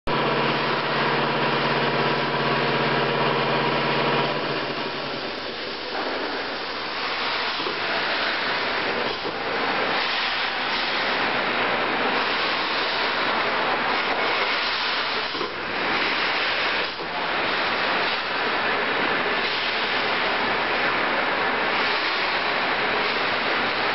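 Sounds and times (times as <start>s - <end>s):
workshop machine hum: 0.1s - 23.9s
rushing hiss: 4.4s - 23.9s.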